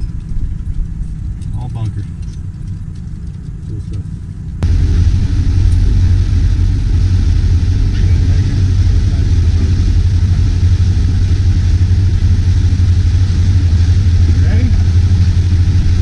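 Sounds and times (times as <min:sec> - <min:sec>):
outboard motor rumble: 0:00.0 - 0:16.0
water and wind noise: 0:00.0 - 0:16.0.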